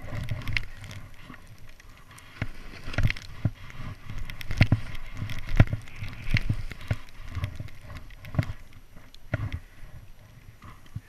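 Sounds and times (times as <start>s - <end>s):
low wind rumble: 0.0s - 11.0s
skis sliding through powder snow: 0.0s - 11.0s.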